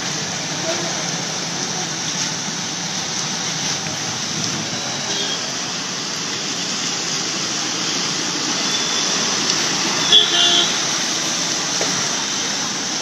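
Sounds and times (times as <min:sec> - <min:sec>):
heavy rain splashing into water: 0:00.0 - 0:13.0.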